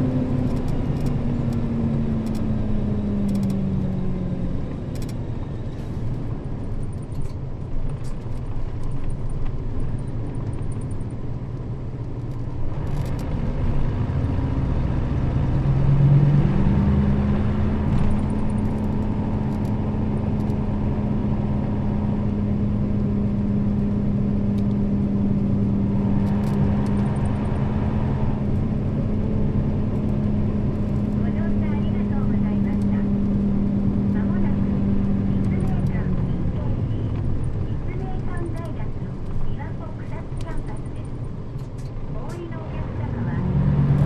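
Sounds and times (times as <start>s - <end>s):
bus engine drone from inside: 0.0s - 44.0s.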